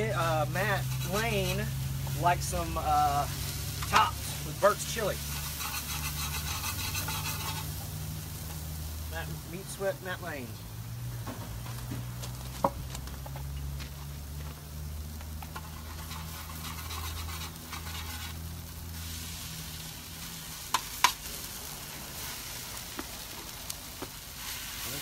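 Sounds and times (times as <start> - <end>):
hash browns sizzling in pan: 0.0 - 25.0.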